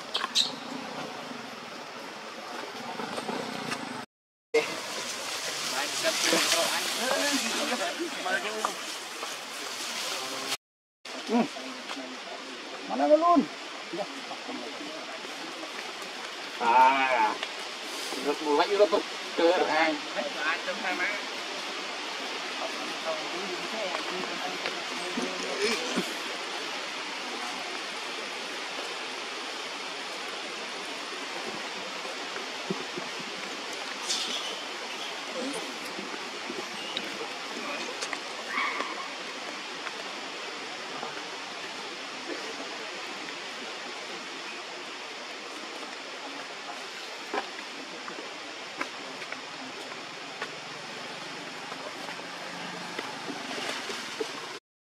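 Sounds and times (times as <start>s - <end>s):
outdoor background noise: 0.0s - 54.6s.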